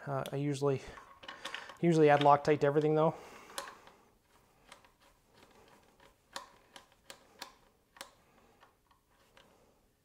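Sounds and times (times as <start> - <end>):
light clicks of hand tool and bolt: 0.1 - 9.6.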